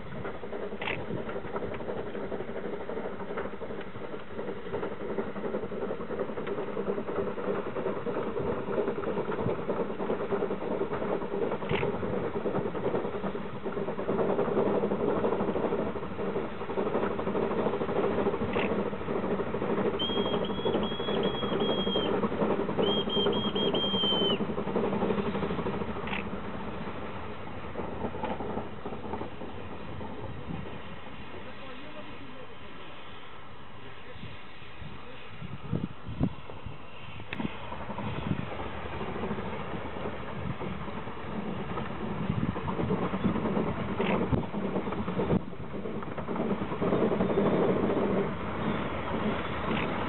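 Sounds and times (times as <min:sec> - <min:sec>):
snowplow engine churning: 0:00.0 - 0:50.0.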